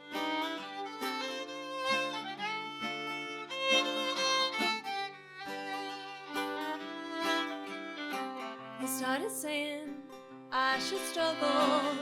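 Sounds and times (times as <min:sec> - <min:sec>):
acoustic guitar strumming: 0:00.0 - 0:12.0
fiddle playing melody: 0:00.0 - 0:12.0.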